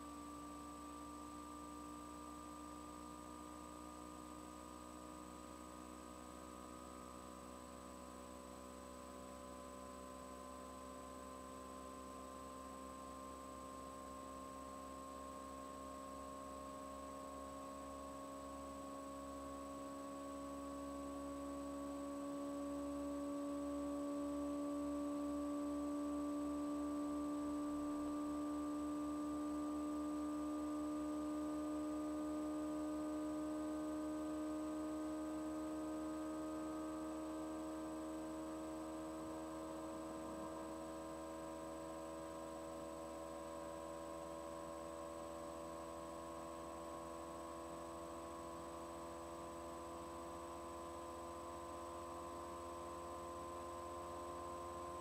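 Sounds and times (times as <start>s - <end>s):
droning hum of steady tones: 0.0s - 55.0s.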